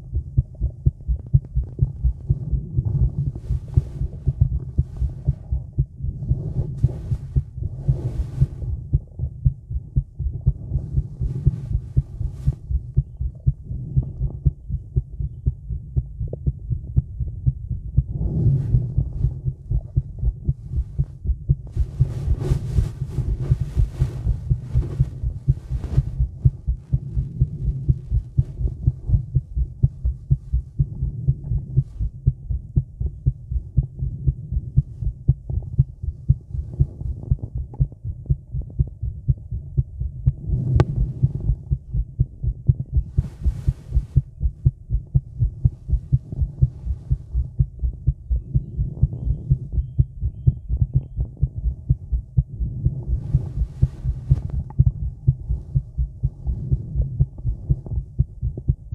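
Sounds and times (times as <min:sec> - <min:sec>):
heartbeat thumps: 0:00.0 - 0:58.9.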